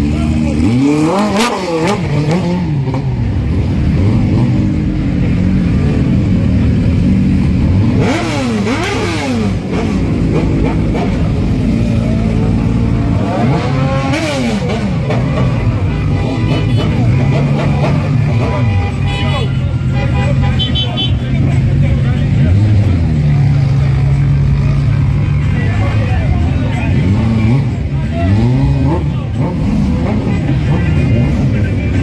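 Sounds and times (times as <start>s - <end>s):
motorcycle and car engines revving: 0.0s - 32.0s.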